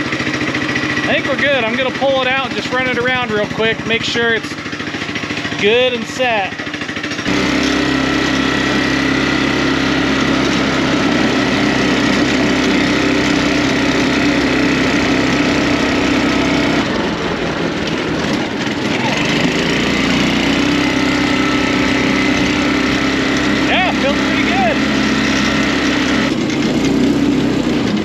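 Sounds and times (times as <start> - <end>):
go-kart small engine running: 0.0 - 28.0.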